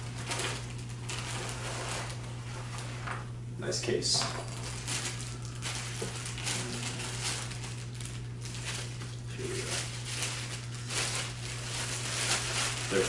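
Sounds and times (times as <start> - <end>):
plastic bag crinkling: 0.0 - 3.3, 4.2 - 13.0
steady low hum: 0.0 - 13.0.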